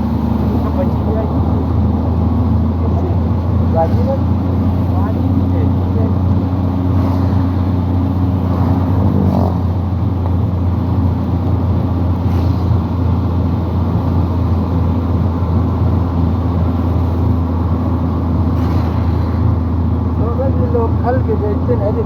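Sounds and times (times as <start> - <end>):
road noise: 0.0 - 22.0
vehicle engine drone: 0.0 - 22.0.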